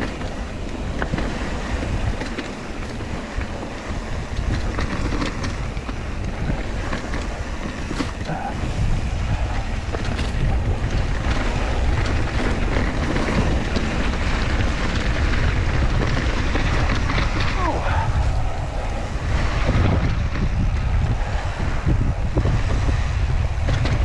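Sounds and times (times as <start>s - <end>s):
tyres rolling over dirt: 0.0s - 20.8s
bike clicks and rattles: 0.0s - 24.0s
wind buffeting microphone: 0.0s - 24.0s.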